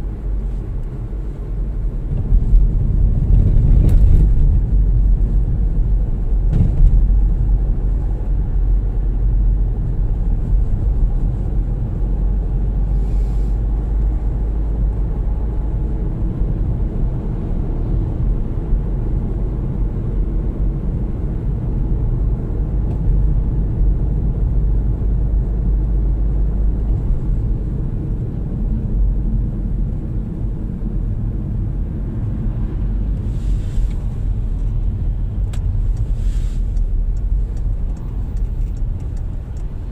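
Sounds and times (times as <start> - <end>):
car interior road and engine noise: 0.0 - 39.9.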